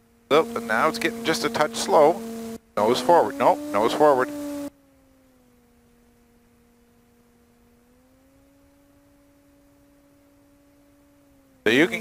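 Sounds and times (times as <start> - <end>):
faint two-tone hum: 0.0 - 12.0.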